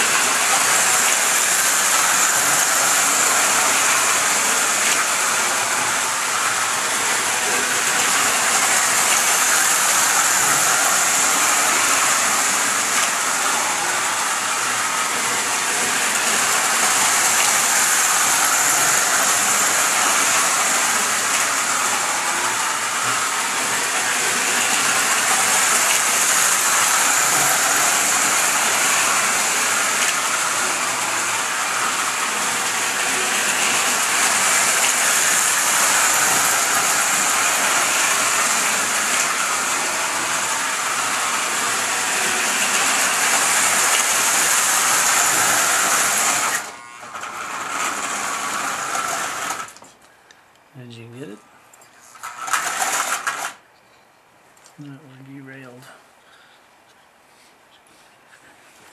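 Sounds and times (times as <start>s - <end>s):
model train running on track: 0.0s - 49.9s, 52.1s - 53.6s.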